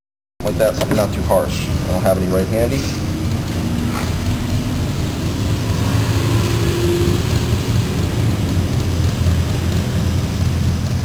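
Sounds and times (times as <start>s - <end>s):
low mechanical rumble: 0.4s - 11.0s.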